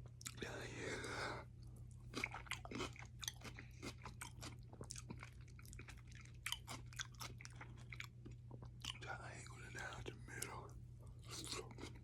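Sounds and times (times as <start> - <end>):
chewing sandwich: 0.0 - 12.0.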